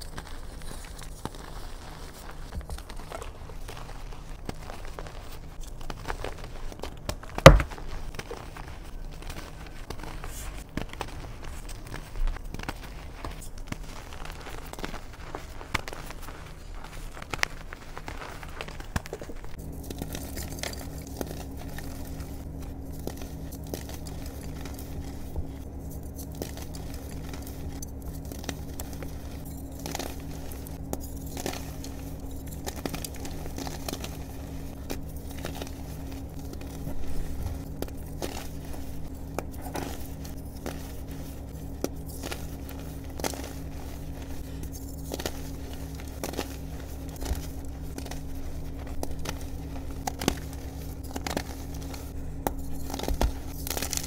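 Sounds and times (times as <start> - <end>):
chalk crunching in hands: 0.0 - 54.0
steady low hum: 0.0 - 54.0.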